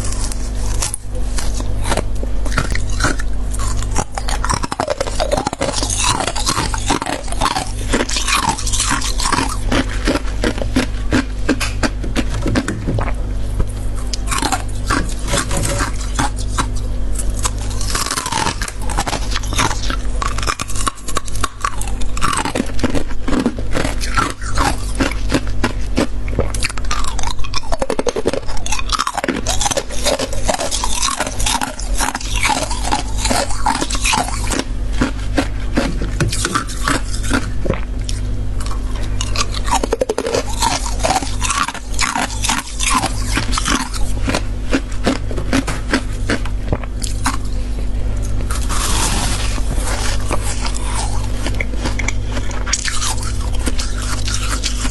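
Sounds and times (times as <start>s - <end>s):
person chewing ice: 0.0s - 13.2s, 13.8s - 54.9s.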